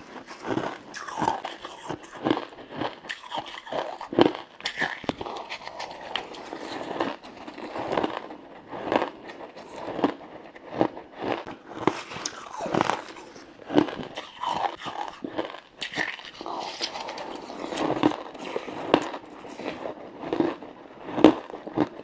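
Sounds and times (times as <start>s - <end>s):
frozen ice crunched between teeth: 0.1s - 22.0s.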